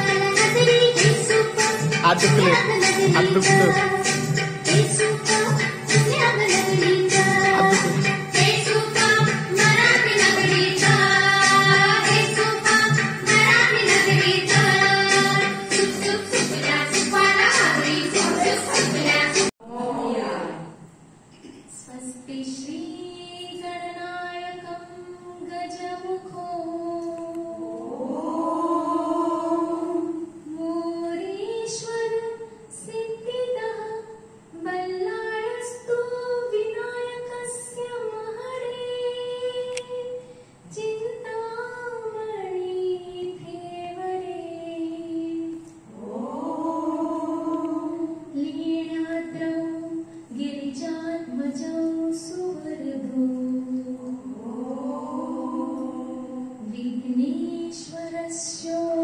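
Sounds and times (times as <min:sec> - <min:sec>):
woman singing unaccompanied: 0:00.0 - 0:20.7, 0:21.9 - 0:59.0.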